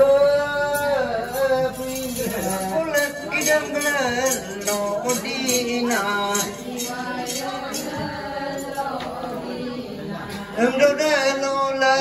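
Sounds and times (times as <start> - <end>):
group chanting song: 0.0 - 12.0.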